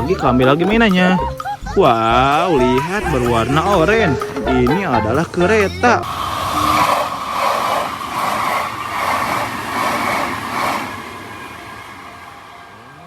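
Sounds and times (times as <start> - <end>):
train chugging: 0.0 - 13.0.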